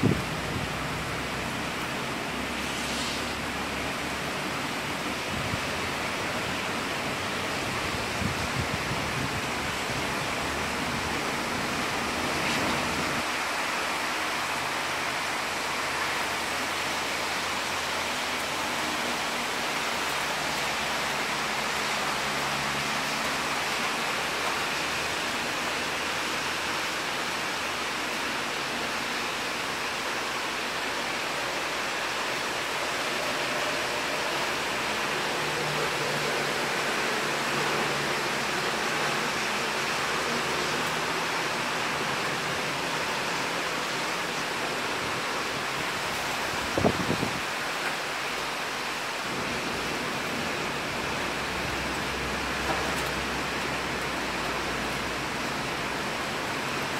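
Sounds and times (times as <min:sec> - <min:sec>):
heavy rain on trees: 0:00.0 - 0:56.9.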